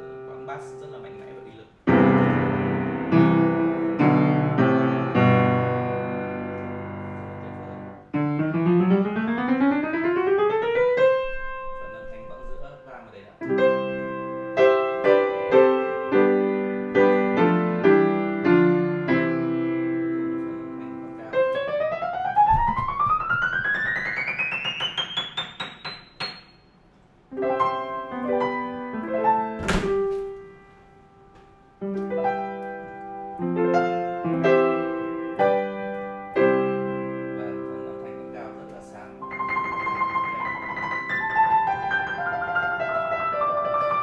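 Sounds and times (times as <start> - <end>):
upright piano playing: 0.0 - 44.0.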